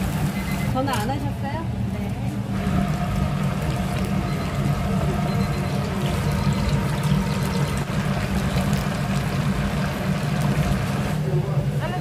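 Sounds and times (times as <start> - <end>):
oil bubbling and sizzling: 0.0 - 0.9, 2.4 - 12.0.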